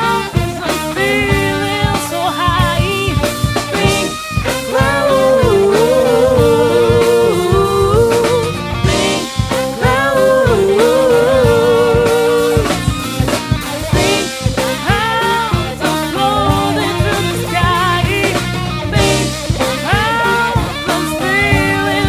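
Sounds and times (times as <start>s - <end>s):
woman singing: 0.0s - 13.2s, 13.9s - 22.0s
drum kit: 0.0s - 22.0s
electric guitar: 0.0s - 22.0s.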